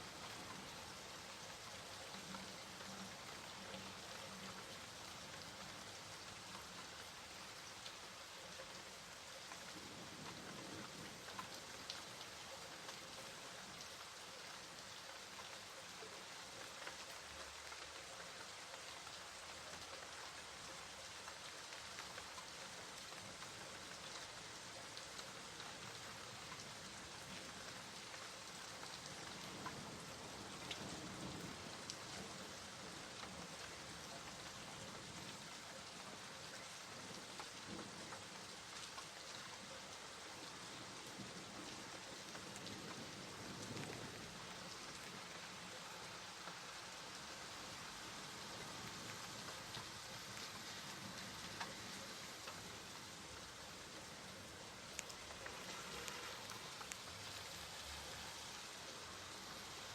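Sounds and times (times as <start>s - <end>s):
rain drops ticking: 0.0s - 59.9s
steady rain falling: 0.0s - 59.9s.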